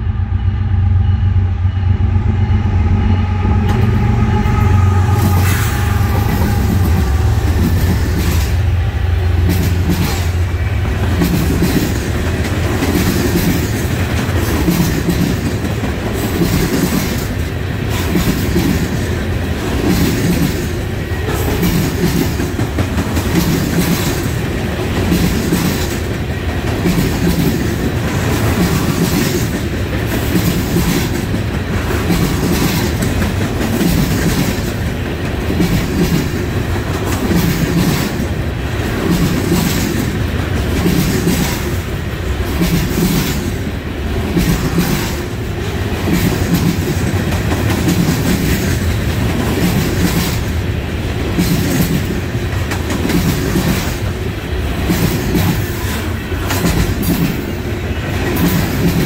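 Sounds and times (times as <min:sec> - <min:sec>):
freight cars clickety-clack: 0:05.2 - 0:59.0.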